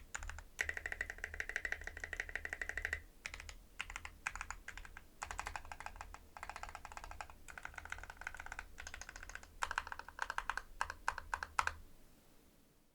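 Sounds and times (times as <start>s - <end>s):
mechanical keyboard keystrokes: 0.1s - 11.8s.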